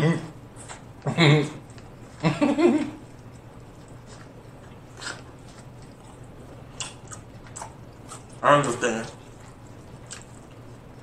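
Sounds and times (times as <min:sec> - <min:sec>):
chewing corn on the cob: 0:00.5 - 0:11.0.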